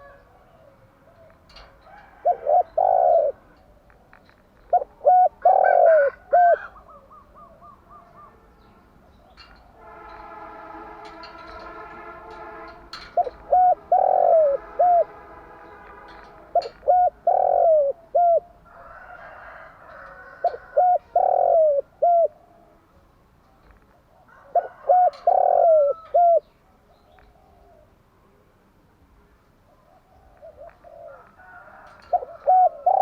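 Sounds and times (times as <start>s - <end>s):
dove cooing: 0.0s - 8.6s, 11.0s - 22.9s, 23.6s - 28.0s, 29.7s - 33.0s.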